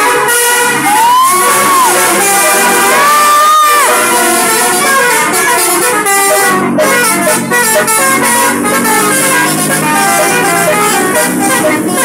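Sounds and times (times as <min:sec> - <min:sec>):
multi-tone air horns melody: 0:00.0 - 0:12.0.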